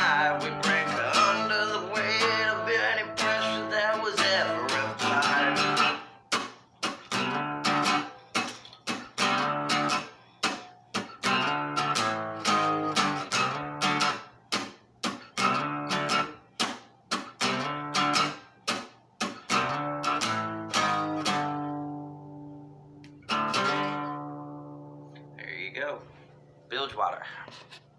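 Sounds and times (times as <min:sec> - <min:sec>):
acoustic guitar strumming: 0:00.0 - 0:26.3.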